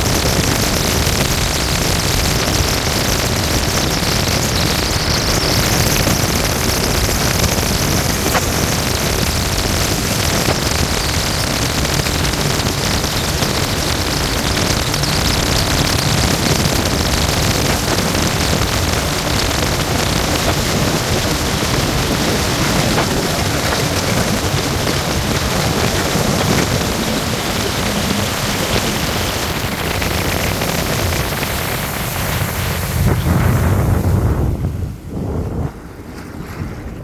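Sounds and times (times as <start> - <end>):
jet ski engine rumble: 0.0 - 37.0
wind on microphone: 0.0 - 37.0.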